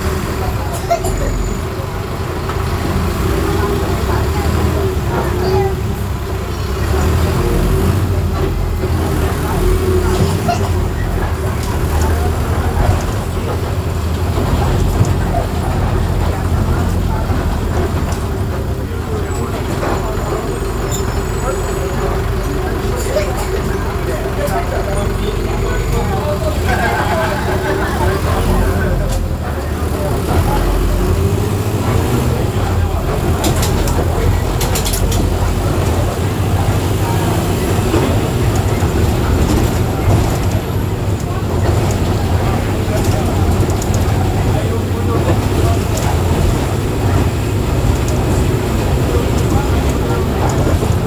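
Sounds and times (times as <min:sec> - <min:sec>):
bus diesel engine droning: 0:00.0 - 0:51.0
road noise: 0:00.0 - 0:51.0.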